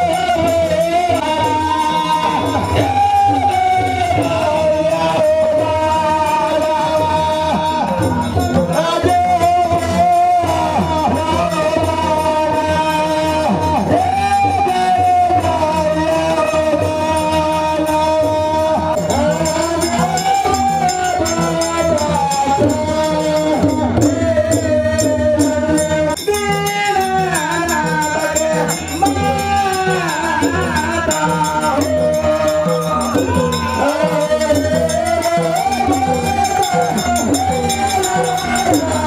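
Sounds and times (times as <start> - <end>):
devotional folk singing: 0.0 - 39.0
rhythmic percussion: 0.0 - 39.0.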